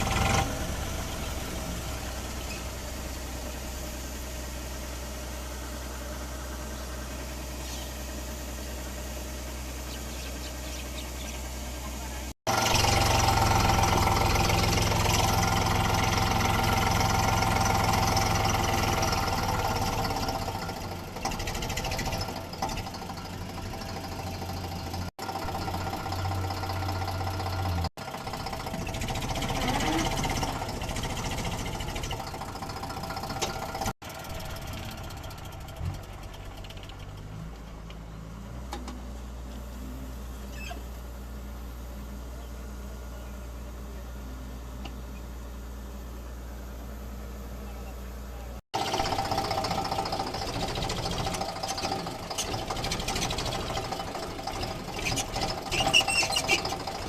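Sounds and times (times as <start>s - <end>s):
harvesting machine engine running: 0.0s - 57.0s.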